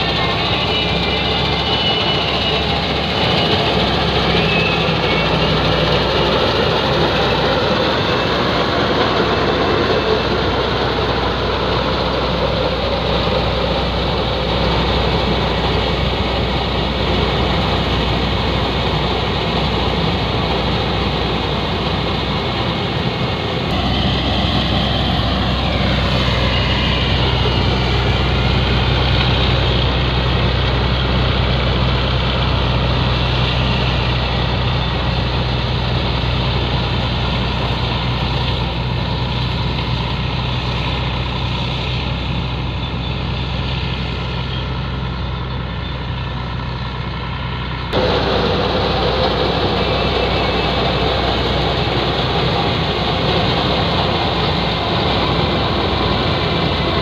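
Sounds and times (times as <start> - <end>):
combine harvester engine drone: 0.0 - 57.0
machinery whine gliding down: 0.0 - 57.0.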